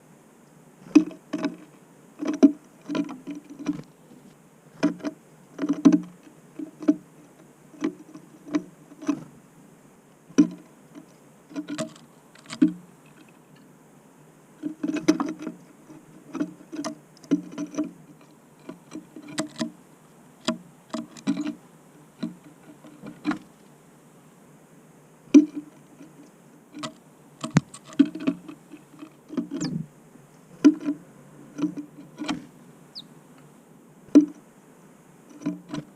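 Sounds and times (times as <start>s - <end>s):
birds pecking at a bird feeder: 0.8s - 9.4s, 10.2s - 13.7s, 14.6s - 24.3s, 25.3s - 34.5s, 35.2s - 35.9s.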